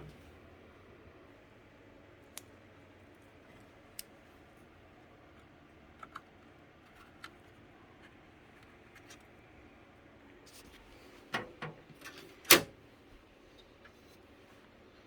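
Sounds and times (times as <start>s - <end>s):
quiet room hum: 0.0s - 15.0s.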